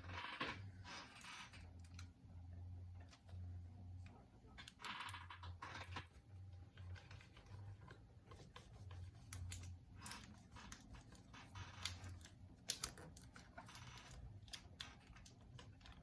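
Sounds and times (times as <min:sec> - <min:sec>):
tape clicking and crackling: 0:00.0 - 0:16.0.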